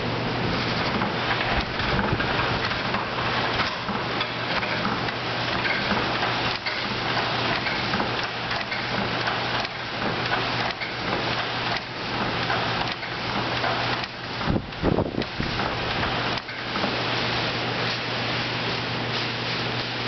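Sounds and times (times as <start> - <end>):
forge bellows pumping: 0.0 - 20.0
coal fire crackling and rushing: 0.4 - 20.0.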